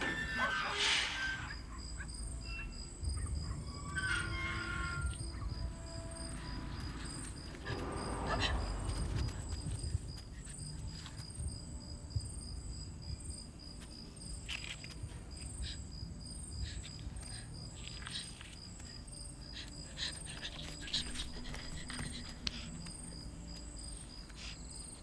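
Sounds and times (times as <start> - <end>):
insects chirping: 0.0 - 25.0
low ambient rumble: 0.6 - 24.8.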